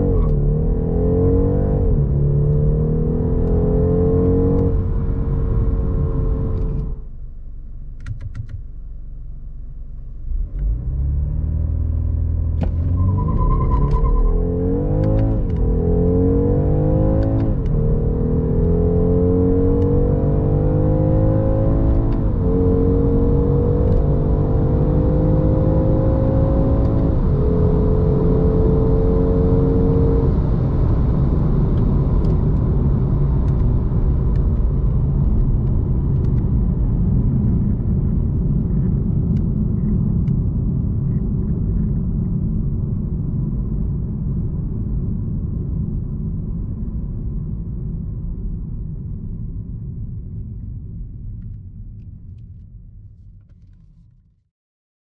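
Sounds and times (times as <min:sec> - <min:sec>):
car engine at full throttle: 0:00.0 - 0:48.5
road and wind noise: 0:00.0 - 0:54.0.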